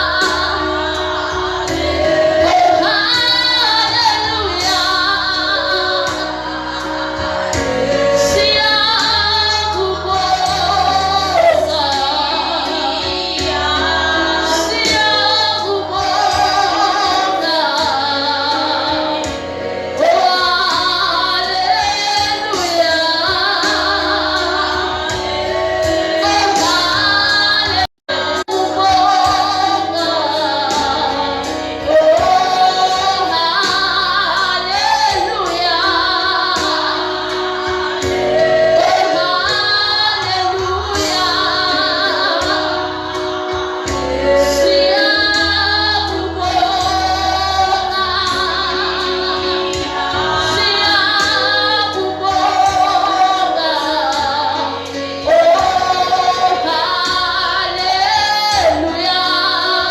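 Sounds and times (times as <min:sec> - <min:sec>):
music: 0:00.0 - 0:59.9
women singing gospel: 0:00.0 - 0:59.9.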